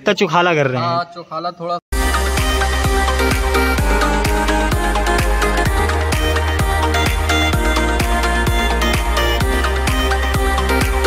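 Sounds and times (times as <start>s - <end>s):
electronic dance music: 2.0s - 11.0s.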